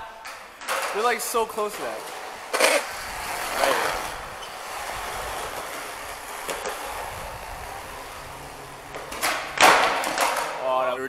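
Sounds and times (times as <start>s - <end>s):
skateboard wheels rolling on concrete: 0.0s - 11.0s
skateboard clacks: 0.1s - 10.7s.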